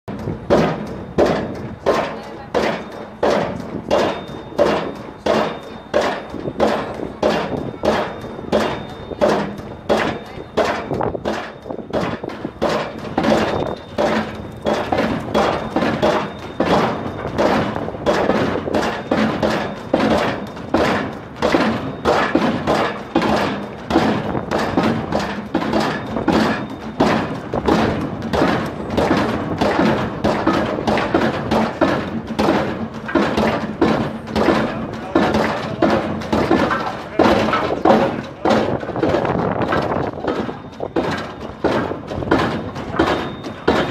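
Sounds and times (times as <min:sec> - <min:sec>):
pile driver hammering: 0:00.1 - 0:43.9.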